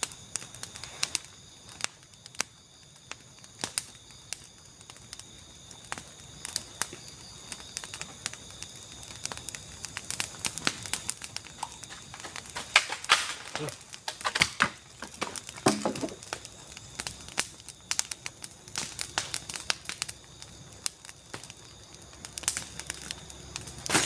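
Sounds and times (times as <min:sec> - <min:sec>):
night insects droning: 0:00.0 - 0:24.0
sharp crackles and clicks: 0:00.0 - 0:24.0.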